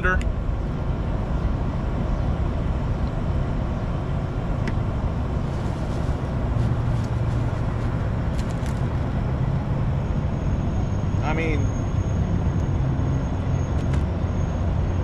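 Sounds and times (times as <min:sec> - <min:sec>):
road traffic rumble: 0:00.0 - 0:15.0
vehicle passing: 0:02.4 - 0:15.0.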